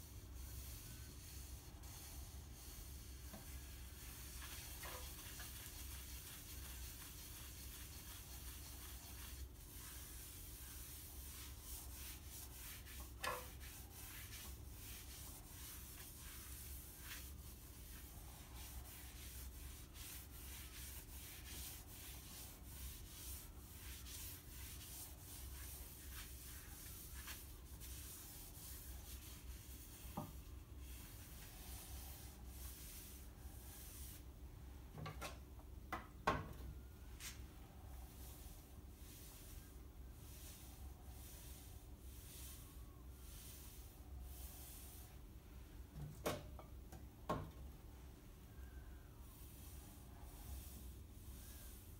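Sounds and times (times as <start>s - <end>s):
soft wiping on wood: 0.0s - 34.9s, 36.8s - 45.9s, 47.9s - 51.9s.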